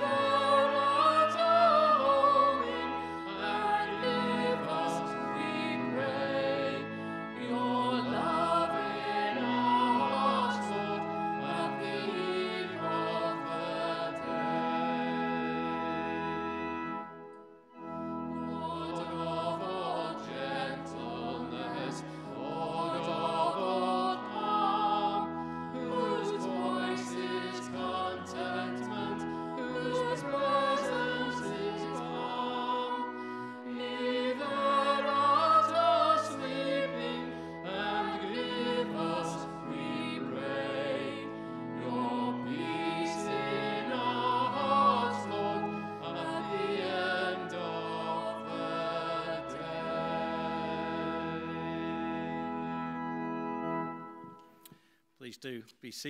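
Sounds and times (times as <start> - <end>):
congregation singing a hymn: 0.0 - 17.0, 17.8 - 53.8
instrumental accompaniment: 0.0 - 54.8.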